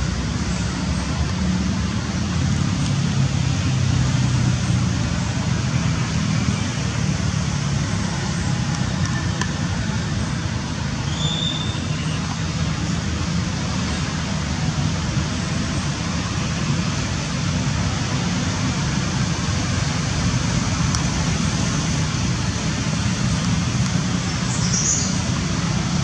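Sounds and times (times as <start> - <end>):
engine humming nearby: 0.0 - 26.0
road traffic noise: 0.0 - 26.0.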